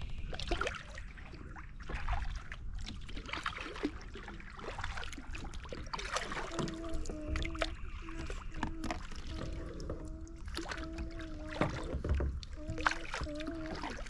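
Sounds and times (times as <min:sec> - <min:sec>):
paddle strokes through water: 0:00.0 - 0:14.0.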